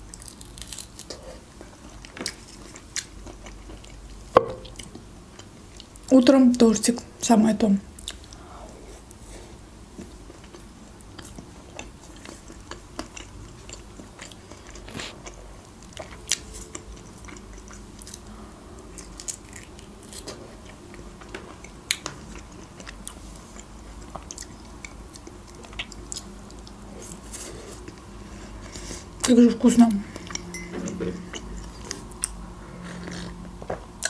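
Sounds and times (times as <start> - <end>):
person chewing cake: 0.0 - 6.1, 8.0 - 29.3, 30.1 - 34.0.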